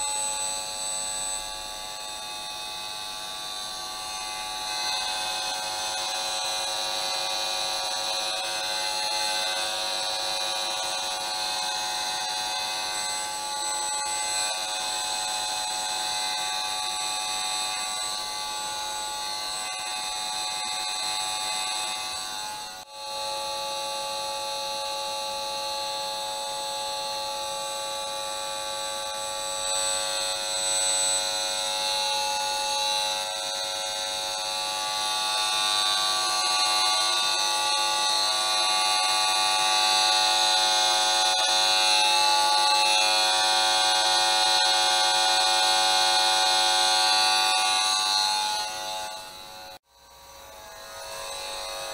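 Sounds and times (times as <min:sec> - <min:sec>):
emf meter electric buzz: 0:00.0 - 0:51.9.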